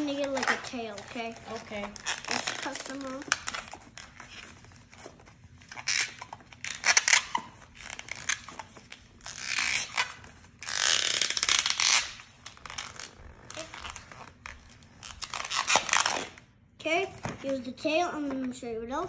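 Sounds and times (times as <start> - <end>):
rubber balloon creaking: 0.0 - 16.5.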